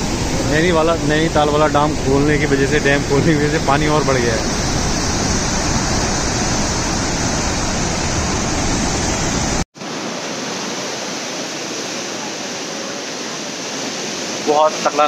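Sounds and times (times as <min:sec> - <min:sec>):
water rushing with low rumble: 0:00.0 - 0:15.0.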